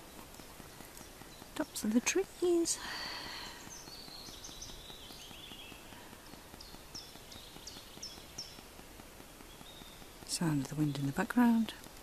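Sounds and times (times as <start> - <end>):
breeze through pine trees: 0.0 - 12.0
small birds singing: 0.0 - 12.0.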